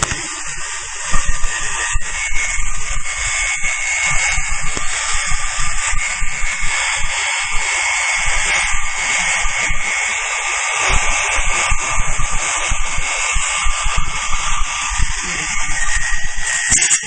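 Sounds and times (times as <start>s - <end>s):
machine buzzing hiss: 0.0s - 17.0s.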